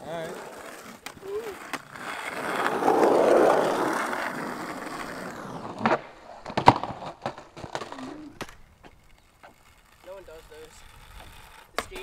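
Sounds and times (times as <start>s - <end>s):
skateboard clacking on road: 0.0s - 12.0s
skateboard wheels rolling on asphalt: 0.0s - 12.0s.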